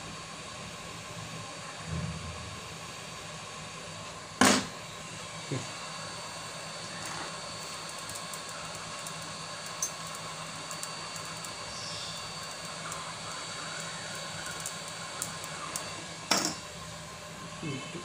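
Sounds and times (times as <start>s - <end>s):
fan whine: 0.0s - 18.0s.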